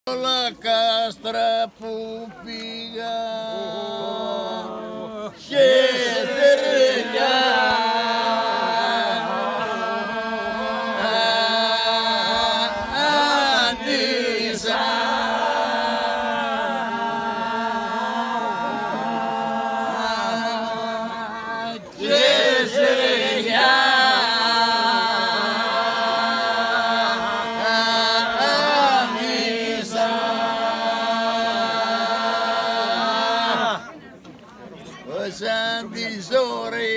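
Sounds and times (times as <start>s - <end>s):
unaccompanied group singing: 0.2s - 34.0s, 35.1s - 36.9s.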